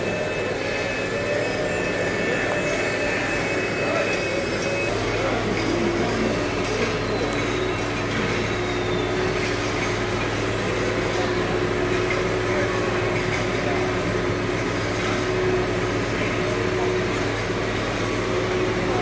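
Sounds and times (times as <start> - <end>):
machinery drone in large hall: 0.0 - 19.0.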